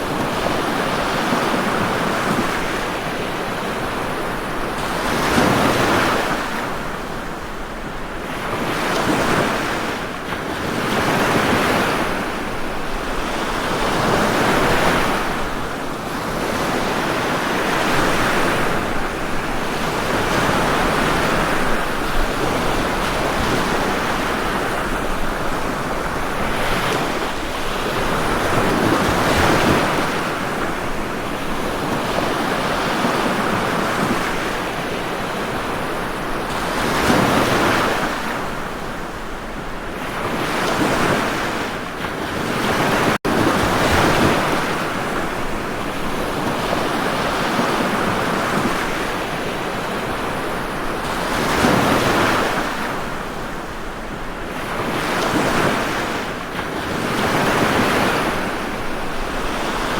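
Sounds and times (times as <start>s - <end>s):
ocean surf waves breaking: 0.0s - 59.9s.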